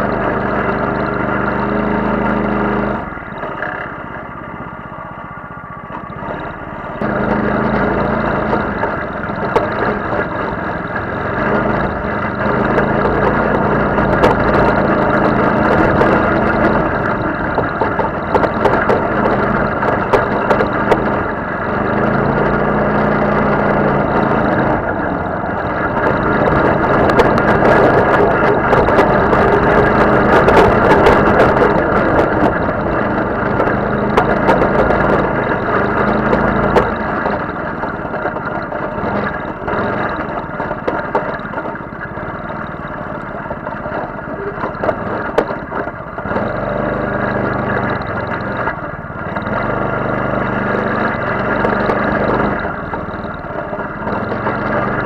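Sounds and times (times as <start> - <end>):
clicks and knocks over rough ground: 0.0 - 55.0
off-road buggy engine running: 0.0 - 55.0.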